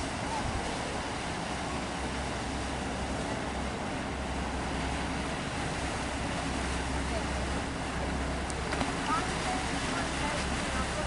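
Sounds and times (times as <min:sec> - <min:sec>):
choppy water: 0:00.0 - 0:11.0.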